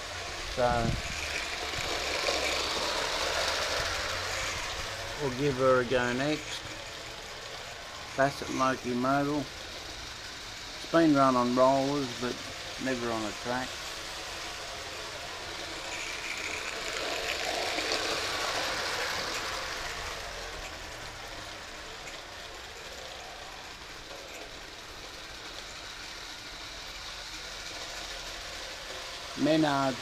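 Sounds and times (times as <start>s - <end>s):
model steam locomotive rushing: 0.0s - 30.0s.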